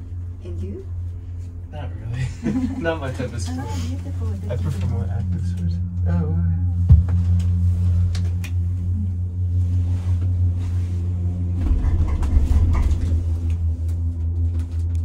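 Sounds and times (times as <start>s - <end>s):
gondola cabin humming: 0.0s - 15.0s
cabin rumbling over wheels: 2.0s - 15.0s.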